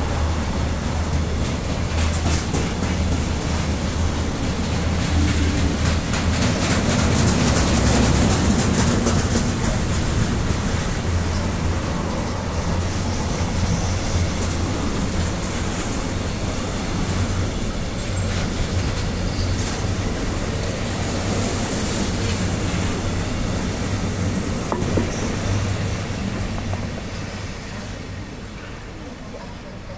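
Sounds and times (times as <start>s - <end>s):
freight wagon wheels clattering on rail: 0.0s - 29.9s.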